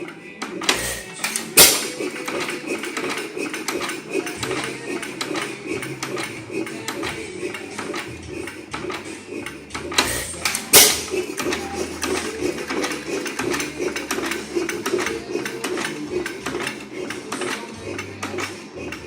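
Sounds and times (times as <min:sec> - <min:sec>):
hit-and-miss engine clattering: 0:00.0 - 0:19.0.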